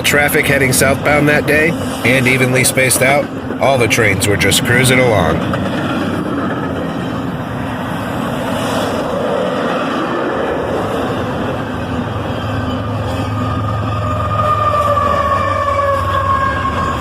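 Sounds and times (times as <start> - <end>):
freight train wheels on rails: 0.0 - 17.0
locomotive low drone: 0.0 - 17.0.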